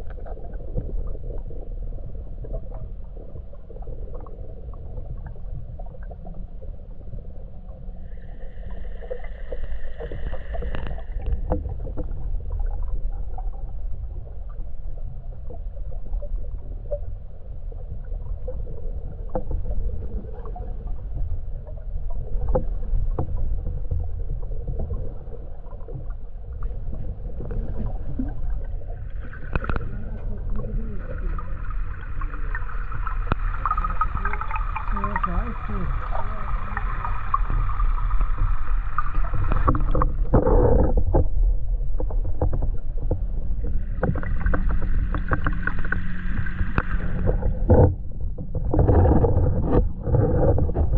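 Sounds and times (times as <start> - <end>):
muffled underwater rumble: 0.0 - 50.9.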